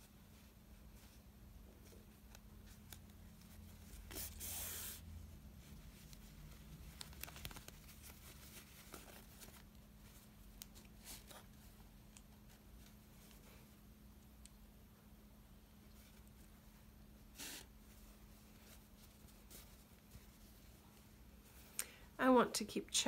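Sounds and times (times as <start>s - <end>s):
fabric rustling in hands: 0.0s - 14.1s, 15.6s - 21.8s.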